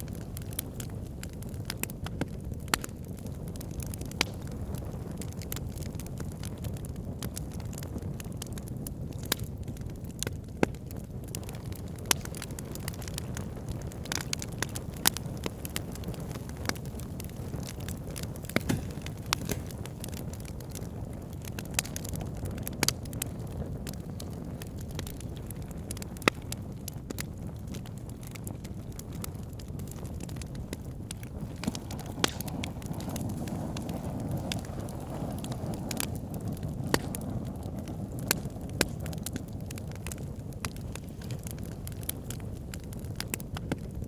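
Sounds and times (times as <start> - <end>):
fire crackling and popping: 0.0 - 44.0
fire rumbling: 0.0 - 44.0.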